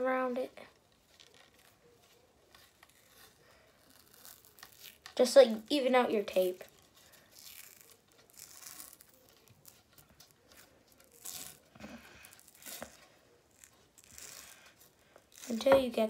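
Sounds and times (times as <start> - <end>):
tape peeling off roll: 0.8 - 5.2, 6.5 - 15.8.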